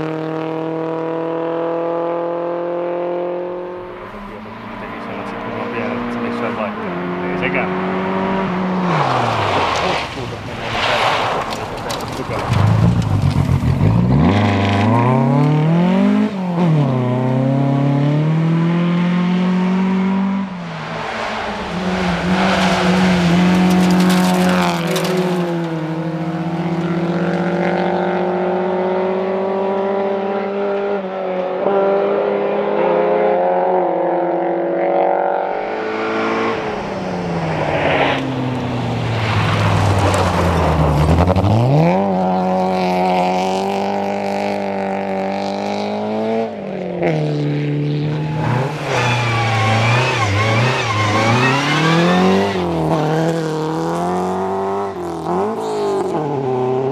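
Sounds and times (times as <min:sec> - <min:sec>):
rally cars revving past: 0:00.0 - 0:56.9.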